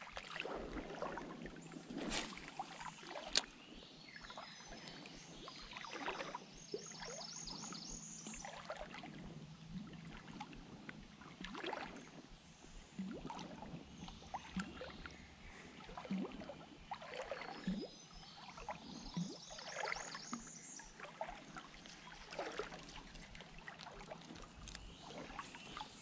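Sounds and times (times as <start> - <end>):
water sloshing around wading legs: 0.0 - 26.0.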